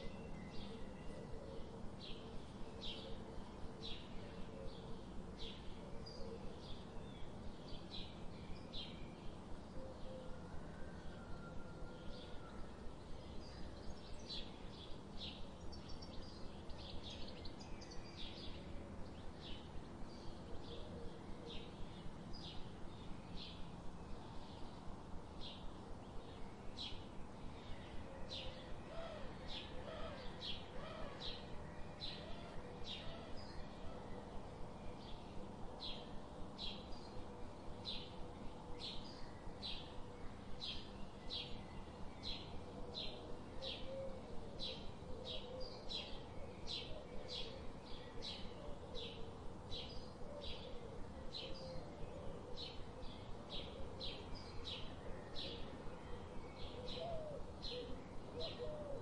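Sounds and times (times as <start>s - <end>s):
steady low background hum: 0.0s - 59.0s.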